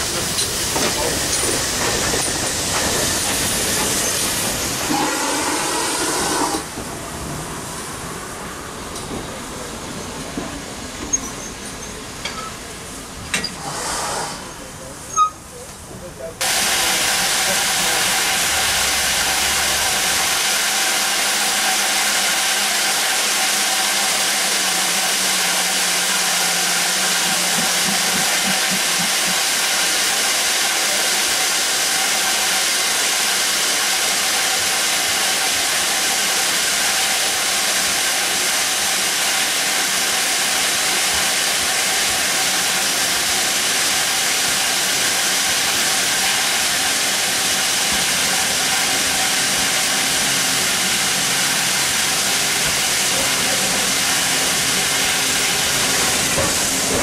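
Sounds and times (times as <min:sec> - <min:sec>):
steam hissing: 0:00.0 - 0:06.8, 0:13.5 - 0:14.7, 0:16.4 - 0:57.0.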